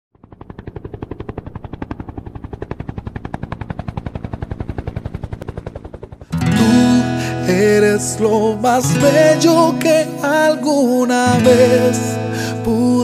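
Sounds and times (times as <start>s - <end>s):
helicopter rotor chopping: 0.1s - 13.0s.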